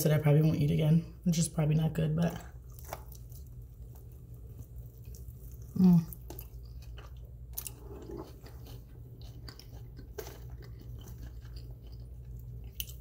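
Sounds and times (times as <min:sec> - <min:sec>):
steady low hum: 0:00.0 - 0:13.0
chewing chicken wing: 0:02.5 - 0:13.0.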